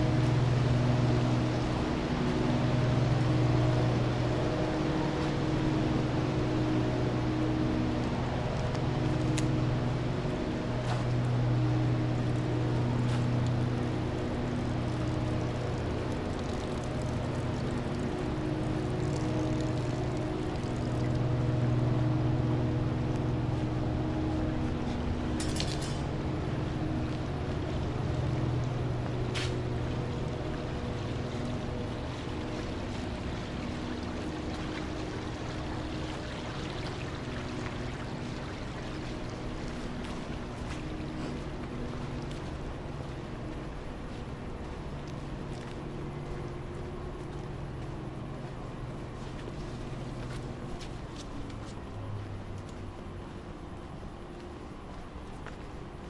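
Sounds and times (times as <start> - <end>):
low mechanical hum: 0.0 - 56.0
water running in a channel: 0.0 - 56.0.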